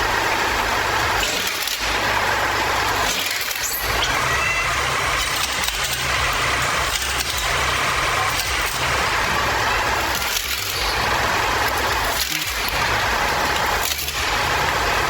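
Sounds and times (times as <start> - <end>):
heavy machinery engine rumble: 0.0 - 15.0
noisy hiss: 0.0 - 15.0.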